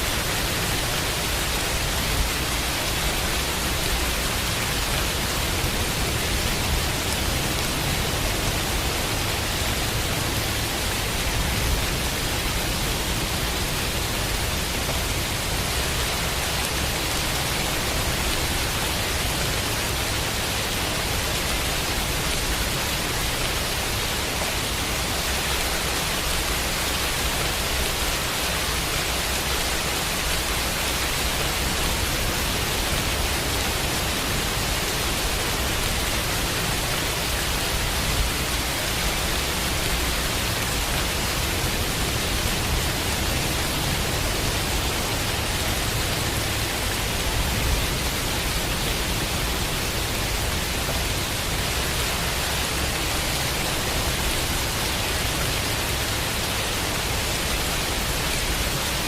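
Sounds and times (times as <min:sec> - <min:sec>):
steady rain: 0:00.0 - 0:59.0
white noise: 0:00.0 - 0:59.0.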